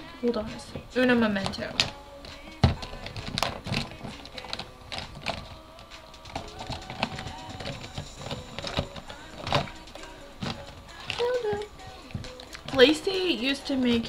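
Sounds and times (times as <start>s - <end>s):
hands rummaging through small items: 0.2s - 14.0s.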